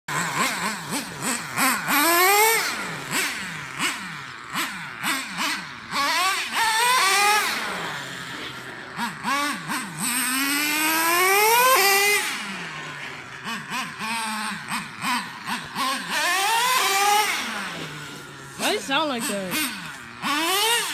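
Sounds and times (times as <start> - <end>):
small nitro engine revving: 0.1 - 20.9.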